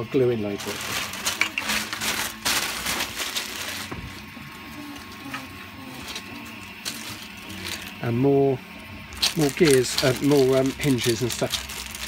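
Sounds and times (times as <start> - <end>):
plastic bag rustling: 0.4 - 8.2, 9.1 - 12.0.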